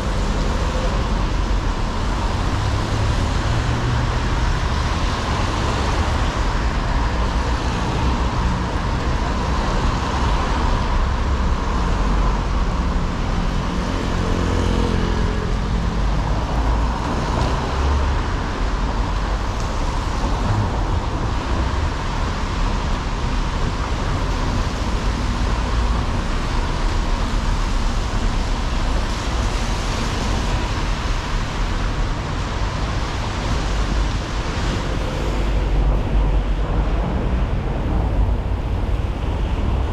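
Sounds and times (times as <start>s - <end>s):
traffic on wet street: 0.0s - 39.9s.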